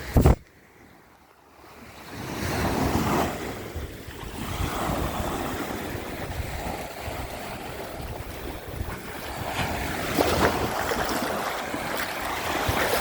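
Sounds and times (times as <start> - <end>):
wind rumbling on microphone: 0.0 - 0.6, 1.6 - 13.0
sea waves breaking on shore: 0.0 - 13.0.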